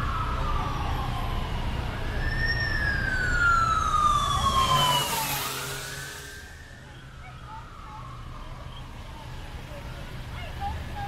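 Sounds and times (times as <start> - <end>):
emergency siren wailing: 0.0 - 11.0
rumble of passing vehicles: 0.0 - 11.0.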